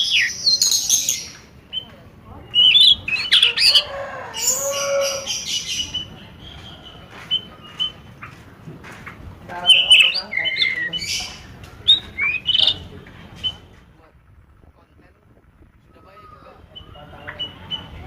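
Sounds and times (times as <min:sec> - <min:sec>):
birds chirping and squawking: 0:00.0 - 0:13.8, 0:15.6 - 0:18.0.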